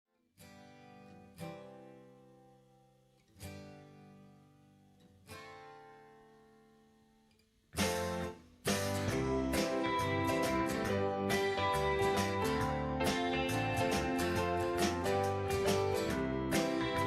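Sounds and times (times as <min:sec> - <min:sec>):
guitar chords strummed: 0:00.4 - 0:17.0.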